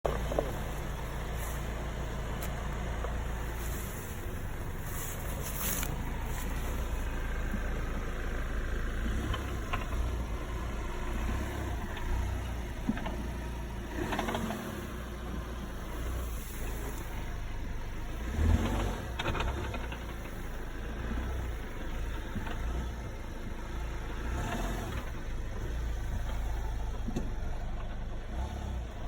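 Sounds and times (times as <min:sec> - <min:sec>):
car engine idling: 0:00.0 - 0:29.0
engine knocking: 0:00.0 - 0:29.0.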